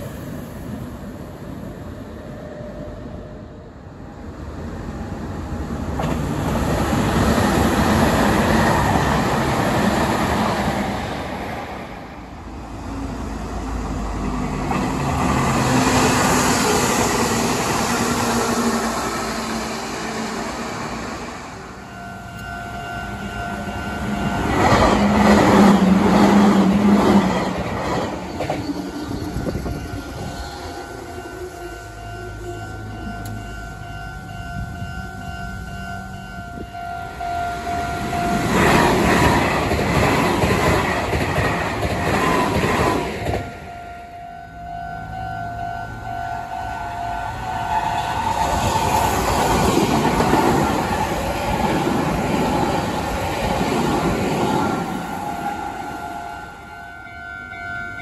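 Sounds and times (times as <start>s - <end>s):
electric trains passing: 0.0s - 58.0s.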